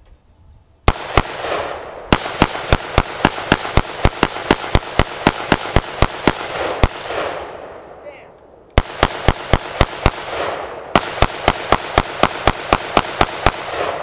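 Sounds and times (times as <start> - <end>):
rifle shots echoing: 0.8 - 14.0.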